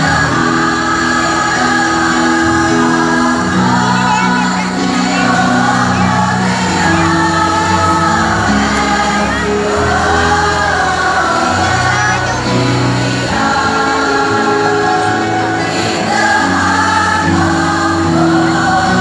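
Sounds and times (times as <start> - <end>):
mixed choir singing: 0.0 - 19.0.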